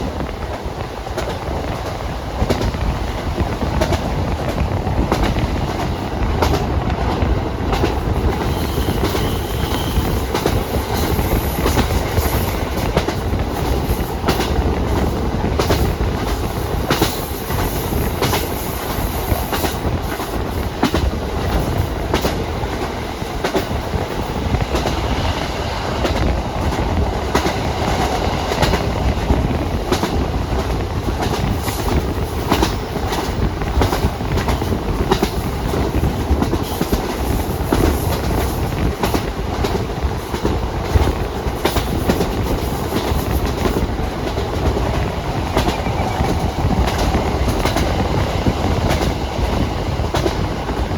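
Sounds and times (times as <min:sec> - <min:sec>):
train rumbling on rails: 0:00.0 - 0:50.9.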